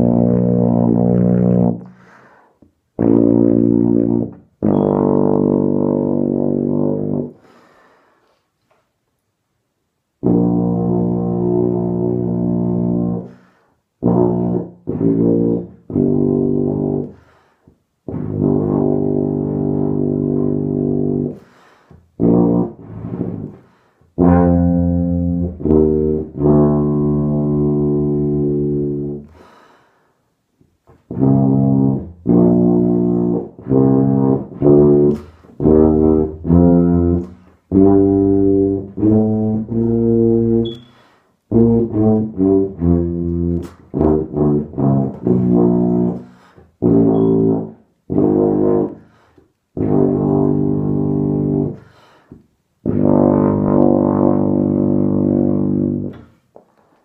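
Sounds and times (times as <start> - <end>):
tuba playing low notes: 0.0 - 2.0, 2.9 - 7.5, 10.2 - 17.2, 18.0 - 21.5, 22.1 - 29.4, 30.8 - 51.9, 52.8 - 56.4.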